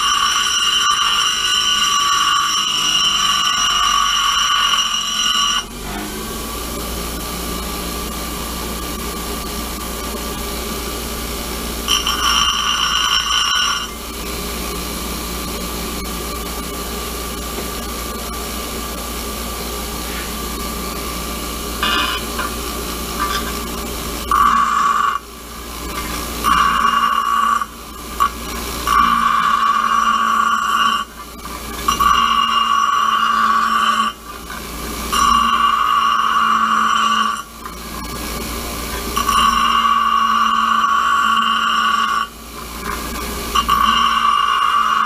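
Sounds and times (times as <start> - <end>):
bench grinder running: 0.0 - 45.0
high-pitched grinding of steel: 0.0 - 45.0.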